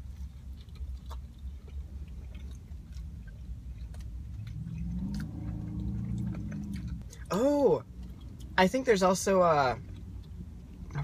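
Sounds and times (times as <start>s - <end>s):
low steady rumble: 0.0s - 11.0s
people chewing food: 0.0s - 11.0s.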